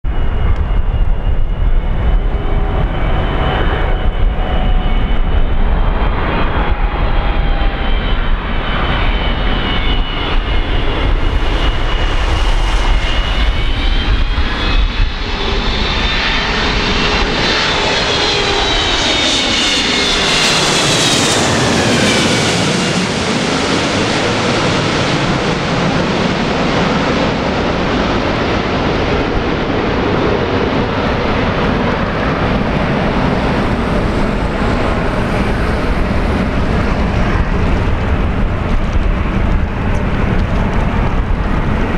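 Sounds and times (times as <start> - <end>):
airliner jet engines: 0.0 - 41.9.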